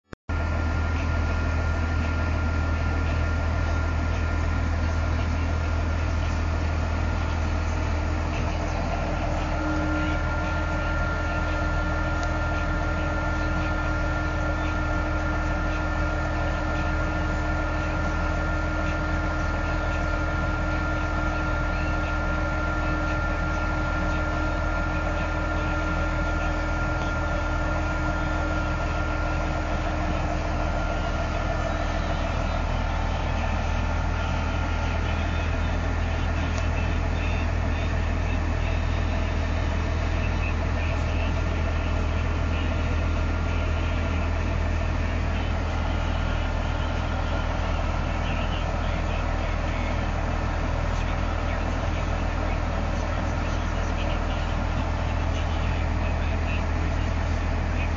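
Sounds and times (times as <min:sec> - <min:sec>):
tractor engine droning: 0:00.3 - 0:57.9.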